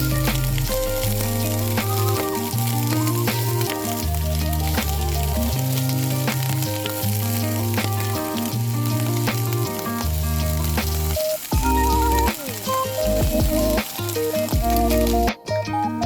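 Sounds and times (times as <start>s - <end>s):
crackling hiss: 0.0s - 15.4s
background music with bass line: 0.0s - 16.0s.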